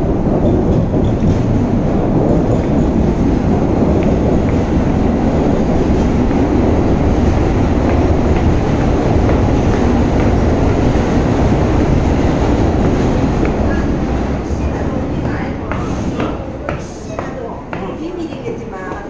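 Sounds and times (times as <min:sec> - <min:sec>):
subway train rumbling on track: 0:00.0 - 0:19.0.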